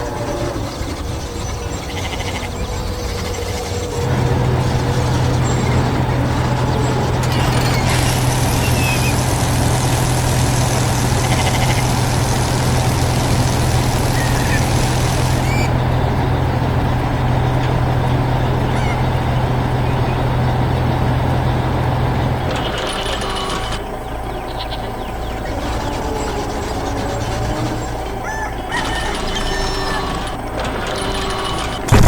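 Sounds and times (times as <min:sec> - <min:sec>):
heavy farm machine engine: 0:00.8 - 0:32.0.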